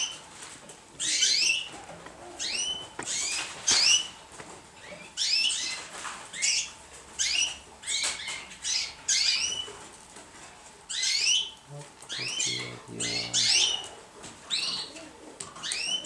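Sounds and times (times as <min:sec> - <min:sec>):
young pigeons peeping: 0:00.0 - 0:16.0.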